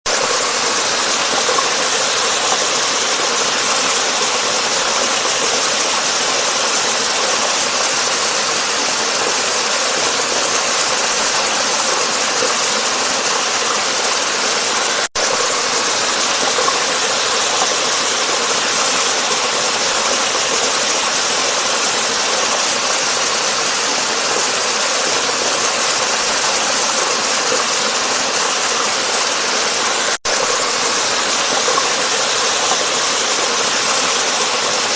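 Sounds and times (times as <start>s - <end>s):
waterfall roaring: 0.1s - 34.9s.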